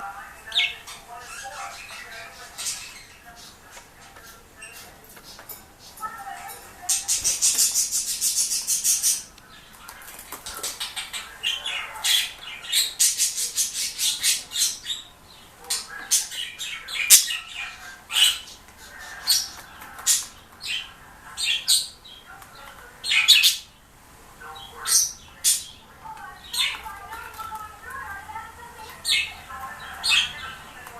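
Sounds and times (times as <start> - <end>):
bird squawking and chirping: 0.5 - 3.6, 4.3 - 9.3, 10.6 - 22.2, 24.6 - 30.9.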